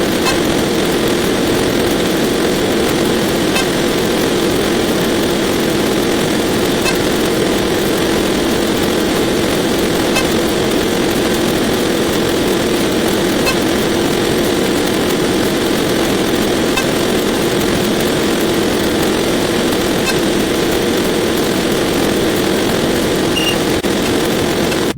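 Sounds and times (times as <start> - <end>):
faint clicks: 0.0 - 24.9.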